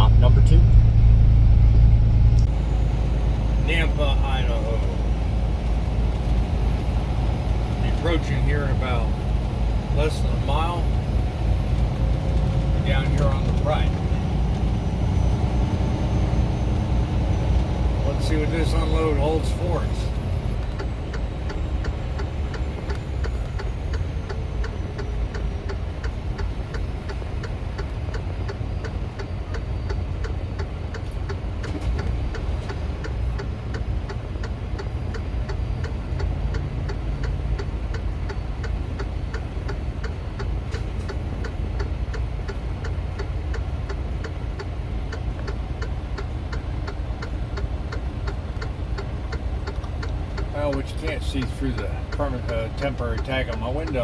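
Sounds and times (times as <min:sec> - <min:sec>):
diesel engine rumbling: 0:00.0 - 0:54.0
turn signal ticking: 0:00.0 - 0:54.0.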